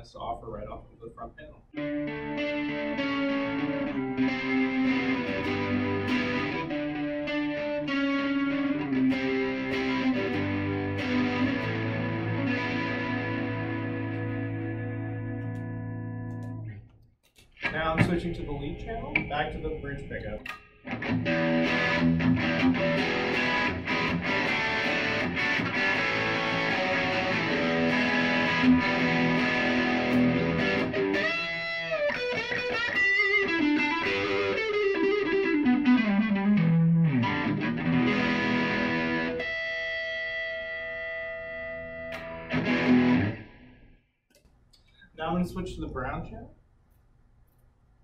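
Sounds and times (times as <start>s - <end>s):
distorted electric guitar lead: 1.8s - 16.8s, 17.6s - 44.0s.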